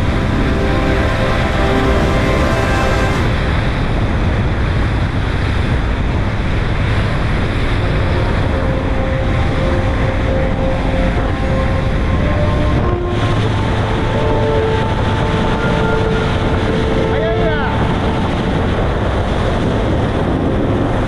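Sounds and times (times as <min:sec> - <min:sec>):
boat engine drone: 0:00.0 - 0:21.0
water rushing: 0:00.0 - 0:21.0
wind buffeting microphone: 0:00.0 - 0:21.0.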